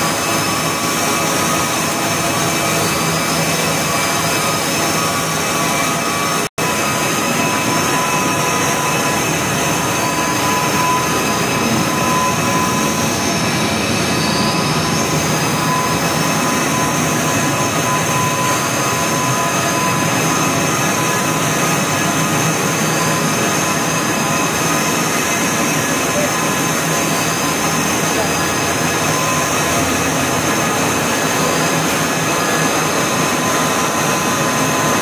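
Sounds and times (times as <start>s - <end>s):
high whine: 0.0s - 35.0s.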